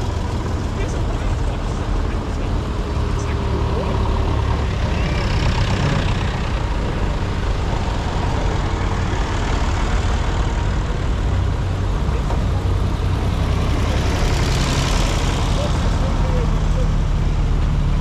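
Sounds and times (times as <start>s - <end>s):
diesel tractors driving past: 0.0s - 18.0s.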